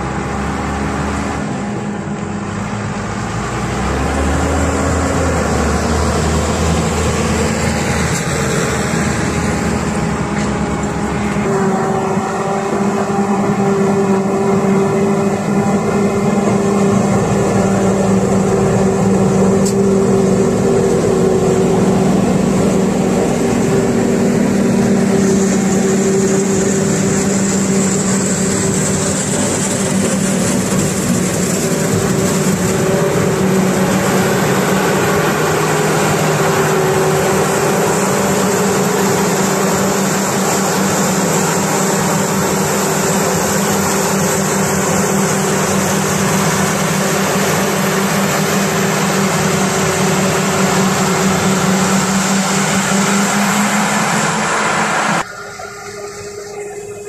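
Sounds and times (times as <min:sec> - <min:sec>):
heavy diesel machinery running: 0:00.0 - 0:57.0
high whine: 0:00.0 - 0:57.0.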